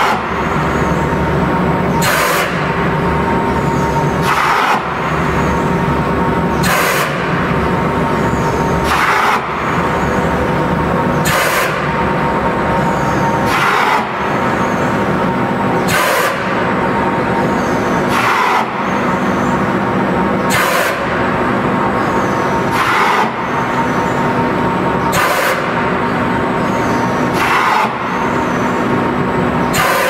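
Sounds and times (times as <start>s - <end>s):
production line mechanical hum: 0.0s - 30.0s.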